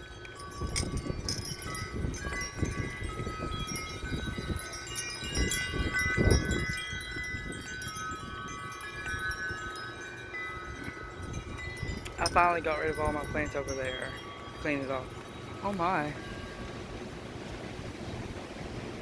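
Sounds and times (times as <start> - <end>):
wind chimes ringing: 0.0 - 17.1
wind buffeting microphone: 0.0 - 19.0.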